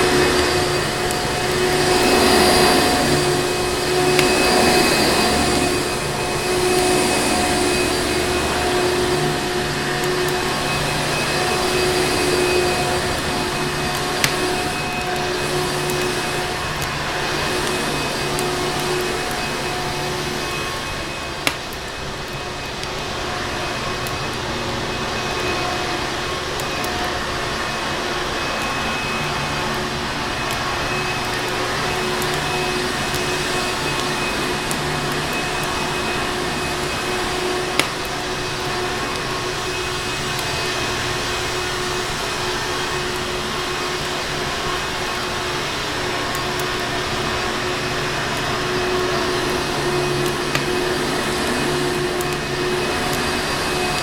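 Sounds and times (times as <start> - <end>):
faint fireplace crackles: 0.0 - 54.0
vacuum cleaner running: 0.0 - 54.0.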